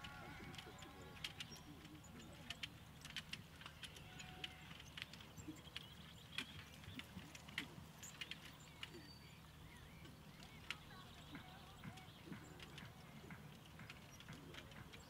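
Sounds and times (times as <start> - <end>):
horse hooves trotting: 0.0 - 15.0.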